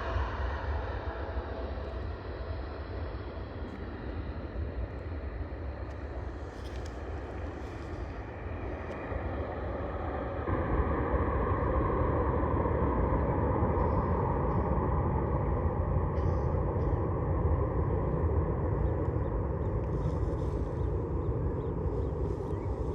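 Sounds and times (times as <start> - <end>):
jet engines roaring at takeoff: 0.0 - 22.9.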